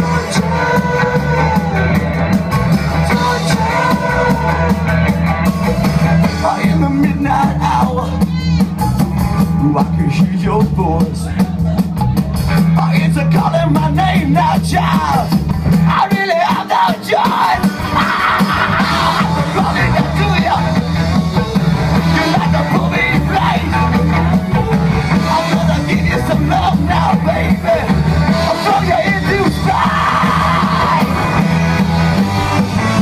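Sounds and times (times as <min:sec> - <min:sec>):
band playing live: 0:00.0 - 0:33.0
steady bass line: 0:00.0 - 0:33.0
yelled and sung vocals: 0:00.0 - 0:33.0.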